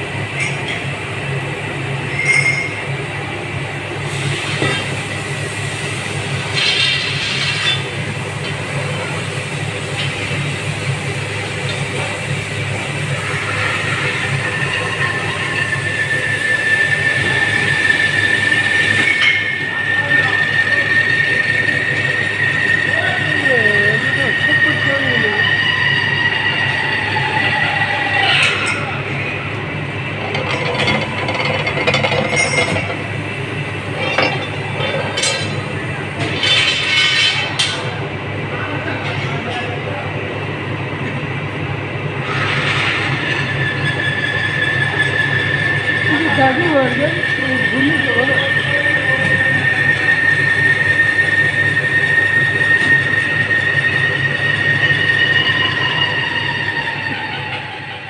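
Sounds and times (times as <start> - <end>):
machinery high-pitched whine: 0.0 - 58.0.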